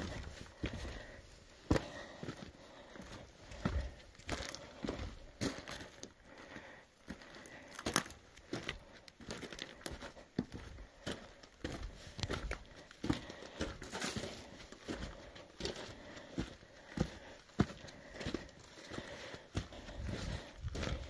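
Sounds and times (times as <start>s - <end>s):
footsteps crunching on rocky ground: 0.0s - 21.0s.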